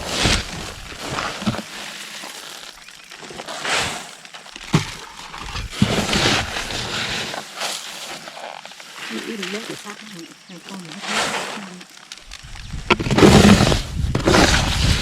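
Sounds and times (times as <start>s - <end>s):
rock crunching and scraping: 0.0s - 15.0s.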